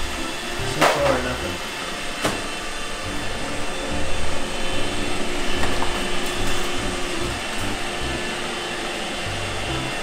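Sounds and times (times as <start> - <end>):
robot vacuum motor hum: 0.0 - 10.0.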